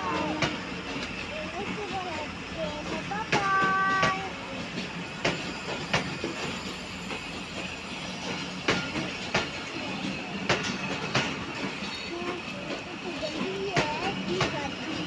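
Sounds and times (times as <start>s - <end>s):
train wheels rumbling on rail: 0.0s - 15.0s
wheels clicking over rail joints: 0.0s - 15.0s.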